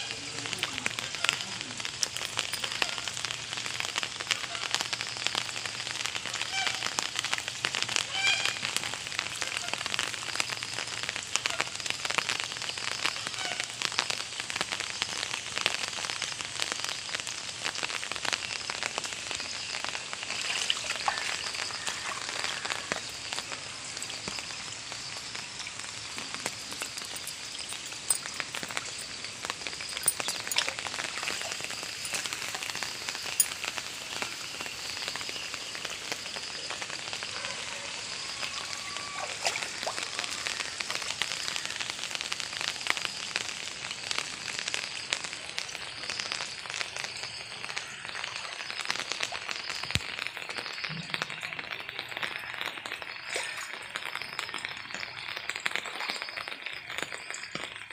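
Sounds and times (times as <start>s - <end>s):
rain falling on water: 0.0s - 57.9s.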